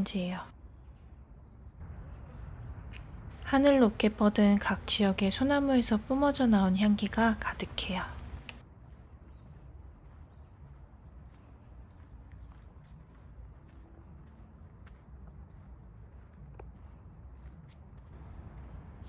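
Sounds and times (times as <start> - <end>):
insects chirring: 0.0 - 19.0
low background rumble: 0.1 - 19.0.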